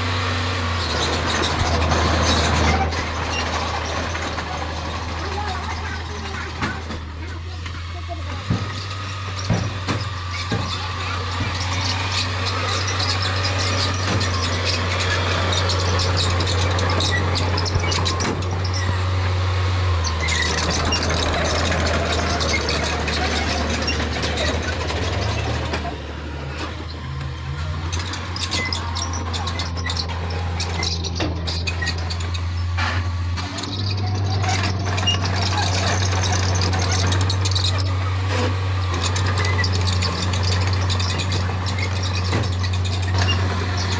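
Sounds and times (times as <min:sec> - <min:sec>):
bulldozer diesel engine: 0:00.0 - 0:43.9
steel tracks squealing and clanking: 0:00.0 - 0:43.9.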